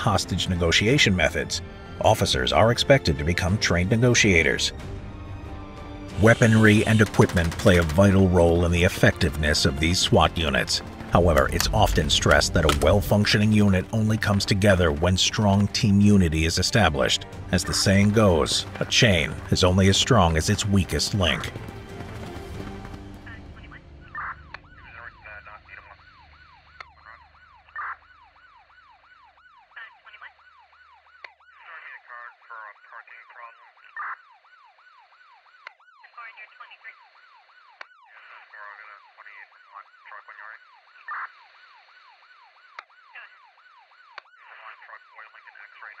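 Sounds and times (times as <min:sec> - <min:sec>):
siren yelping: 0:06.1 - 0:46.0.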